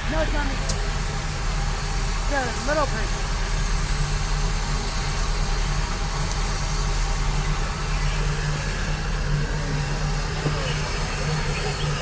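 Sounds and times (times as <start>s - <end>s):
steam locomotive low hum: 0.0s - 12.0s.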